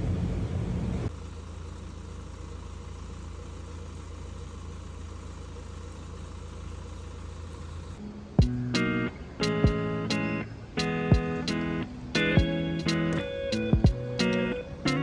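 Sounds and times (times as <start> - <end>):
loud low vehicle rumble: 0.0 - 15.0
low engine hum: 0.0 - 15.0.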